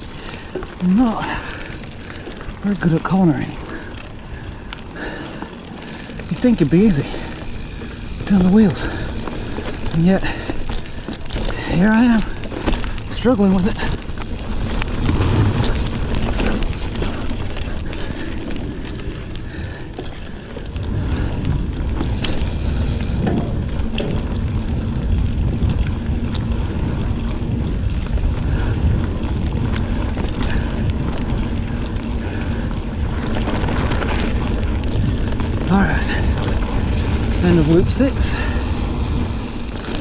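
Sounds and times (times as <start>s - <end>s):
bike clicks and rattles: 0.0s - 40.0s
bike tyres on dirt trail: 0.0s - 40.0s
wind rumbling on microphone: 0.0s - 40.0s.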